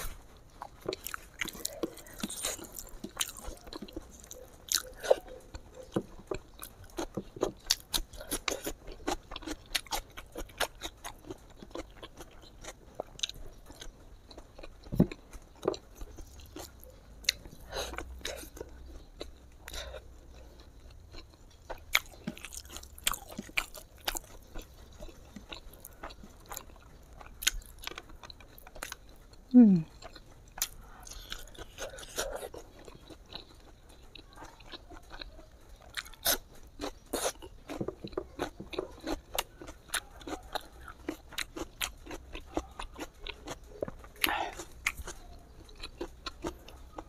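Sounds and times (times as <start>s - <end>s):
person chewing and mouth smacks: 0.0s - 47.0s.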